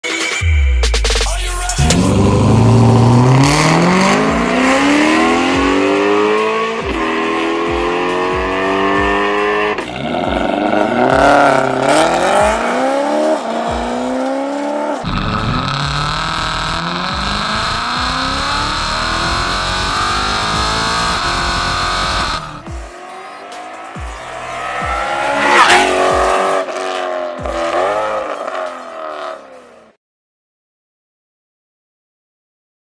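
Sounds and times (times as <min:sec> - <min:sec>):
car engine accelerating hard: 0:01.8 - 0:29.9.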